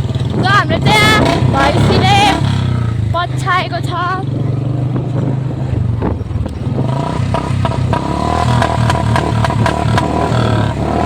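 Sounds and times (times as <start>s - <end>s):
motorcycle engine thumping: 0.0s - 11.0s.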